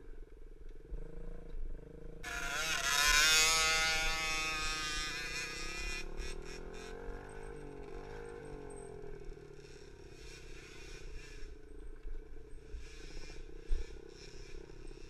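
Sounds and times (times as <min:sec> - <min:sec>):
dirt bike engine revving: 0:00.8 - 0:11.7, 0:12.4 - 0:15.0.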